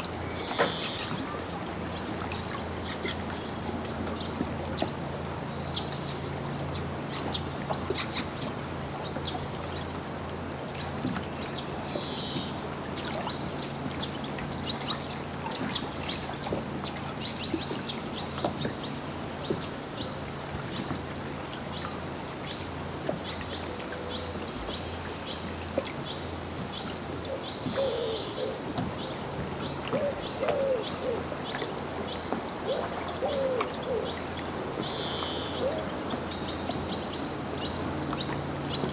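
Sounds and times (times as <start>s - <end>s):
water lapping at a dock: 0.0s - 38.9s.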